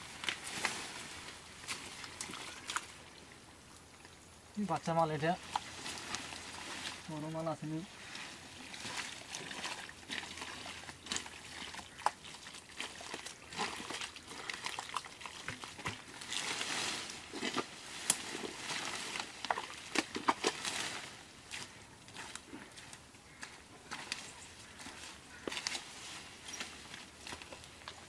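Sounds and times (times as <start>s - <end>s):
hands squelching in wet mud: 0.2s - 3.2s, 7.8s - 28.0s.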